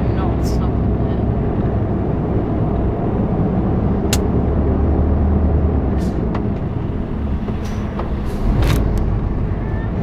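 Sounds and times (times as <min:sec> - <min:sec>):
engine and tyres droning: 0:00.0 - 0:10.0.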